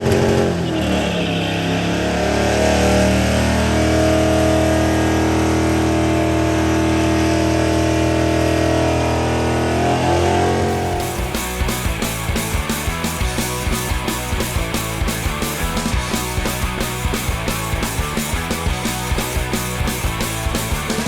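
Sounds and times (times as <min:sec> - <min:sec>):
car engine revving hard: 0:00.0 - 0:21.0.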